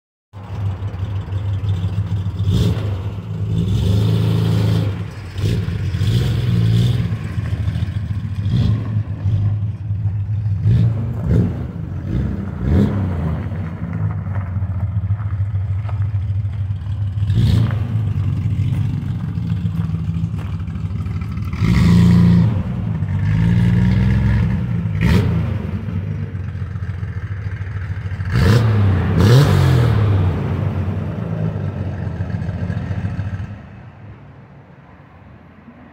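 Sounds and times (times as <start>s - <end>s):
car engine idling and revving: 0.3s - 35.9s.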